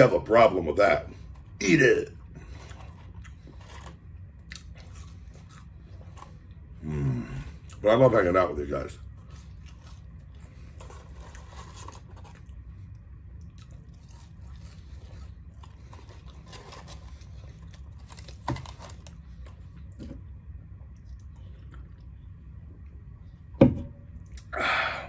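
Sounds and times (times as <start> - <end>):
man chewing crunchy fries: 1.1 - 8.2, 8.9 - 22.3.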